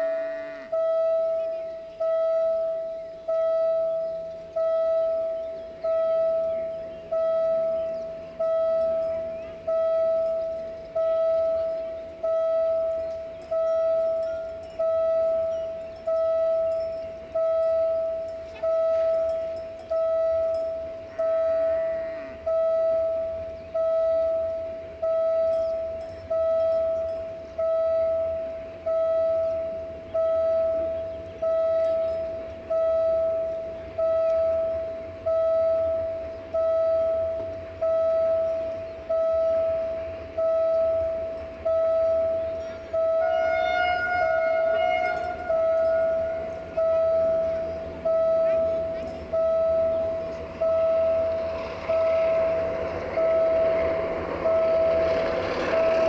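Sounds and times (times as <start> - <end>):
crossing warning bell ringing: 0.0 - 56.0
faint train rumble: 0.0 - 56.0.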